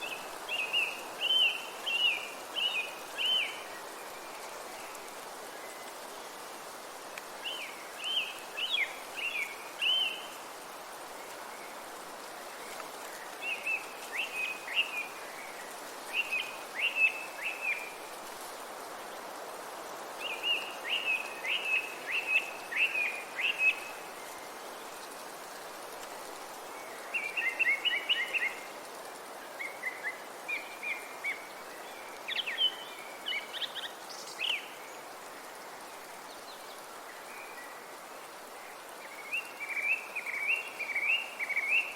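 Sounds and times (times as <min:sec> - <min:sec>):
songbird chirping: 0:00.0 - 0:18.4, 0:19.1 - 0:41.9
steady background hiss: 0:00.0 - 0:41.9.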